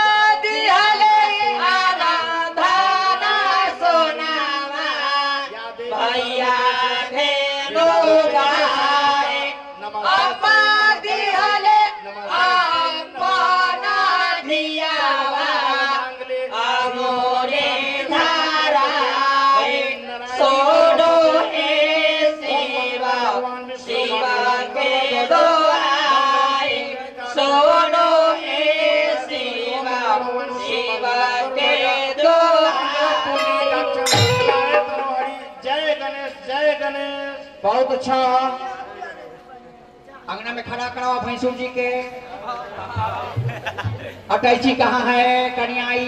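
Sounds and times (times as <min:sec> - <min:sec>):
man singing through loudspeakers: 0:00.0 - 0:39.6, 0:40.3 - 0:46.0.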